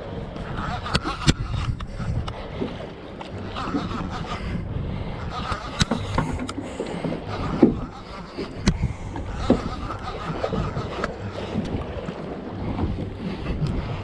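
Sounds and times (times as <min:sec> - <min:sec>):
low hum: 0:00.0 - 0:14.0
water noise: 0:00.0 - 0:14.0
wind: 0:00.0 - 0:14.0.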